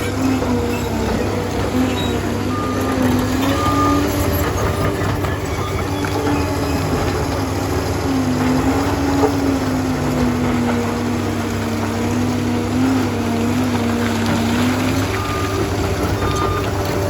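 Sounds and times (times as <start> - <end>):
dozer diesel engine running: 0.0 - 17.0.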